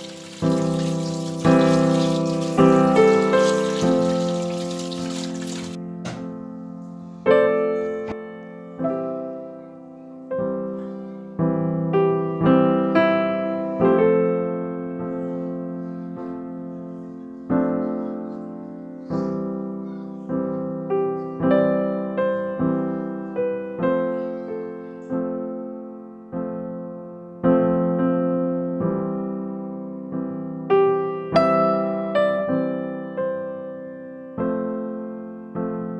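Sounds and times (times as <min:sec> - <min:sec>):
gentle piano music: 0:00.0 - 0:35.9.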